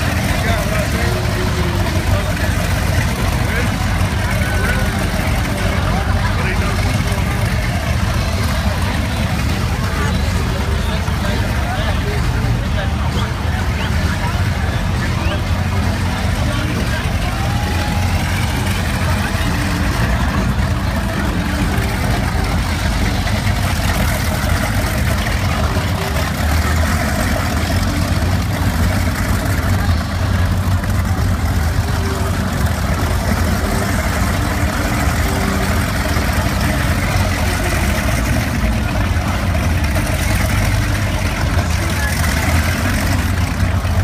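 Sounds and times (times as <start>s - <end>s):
boat engines idling: 0.0s - 44.0s
faint voices: 0.0s - 44.0s.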